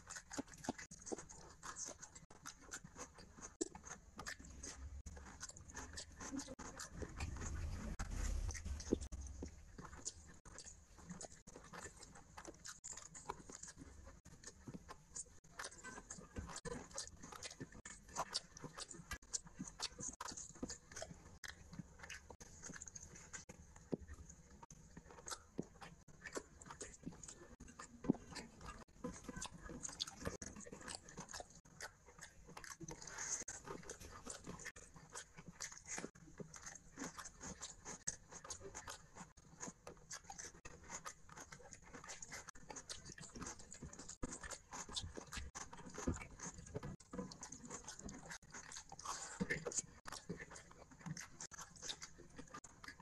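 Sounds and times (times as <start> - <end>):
fingers squishing rice: 0.0 - 53.0
wet chewing and lip-smacking: 0.0 - 53.0.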